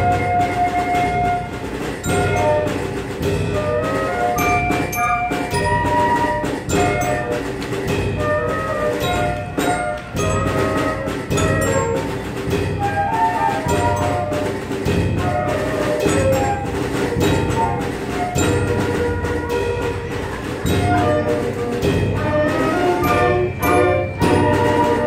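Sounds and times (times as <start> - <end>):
drum hits: 0.0 - 25.0
flutes and wind instruments: 0.0 - 25.0.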